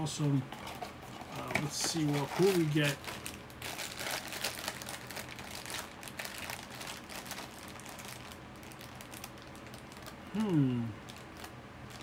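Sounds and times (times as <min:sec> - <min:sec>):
plastic package crinkling: 0:00.6 - 0:10.2, 0:11.0 - 0:12.0.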